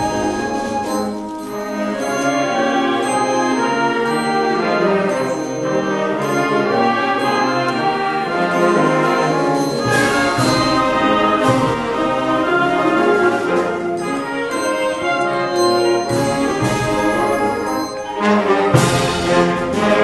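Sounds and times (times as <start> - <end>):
wind band playing sustained chords: 0.0 - 20.0.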